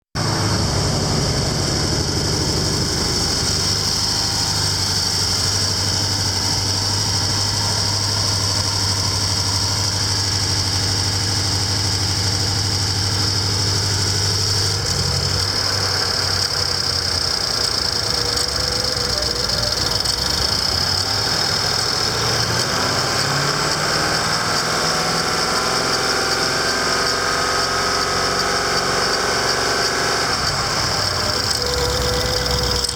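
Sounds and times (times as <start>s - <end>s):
car engine idling: 0.2s - 32.9s.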